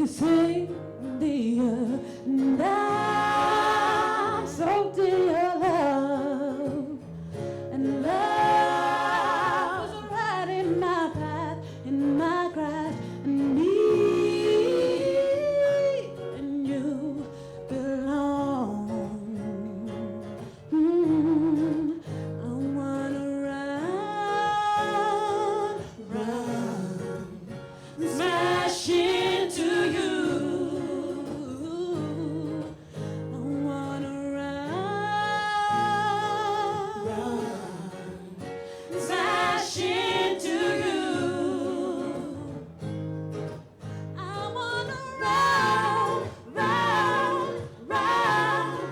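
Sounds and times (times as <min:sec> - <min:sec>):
women singing: 0:00.0 - 0:48.9.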